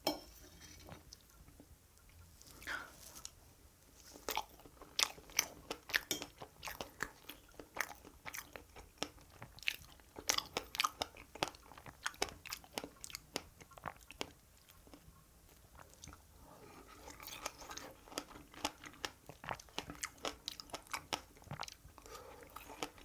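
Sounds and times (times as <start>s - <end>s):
chewing and biting cake: 4.1s - 23.0s.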